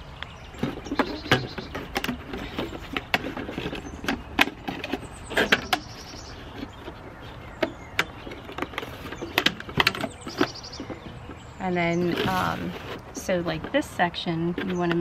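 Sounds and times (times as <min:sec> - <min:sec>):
cardboard rustling and scraping: 0:00.5 - 0:15.0.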